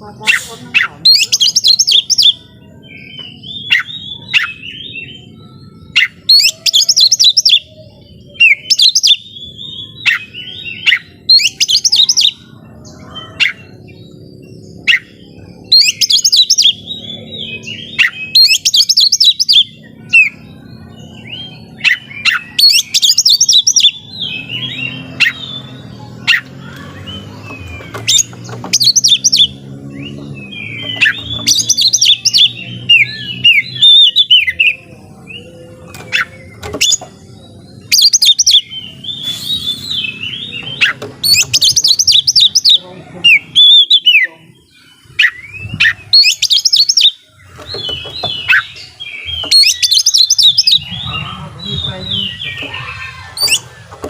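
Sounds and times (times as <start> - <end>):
songbird whistling and chattering: 0.1 - 12.4, 13.0 - 54.0.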